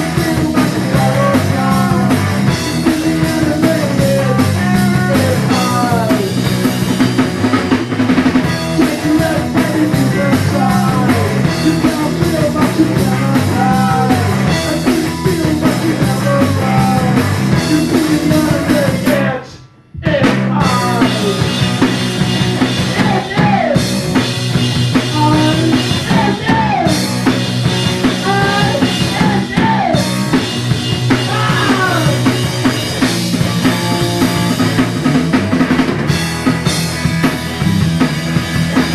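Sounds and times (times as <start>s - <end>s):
grunge rock song with drums and guitar: 0.0s - 38.9s.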